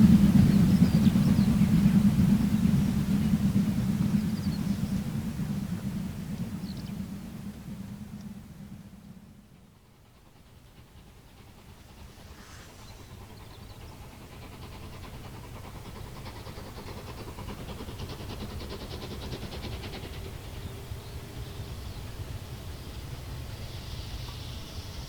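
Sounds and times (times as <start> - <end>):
steam train rumbling: 0.0 - 25.0.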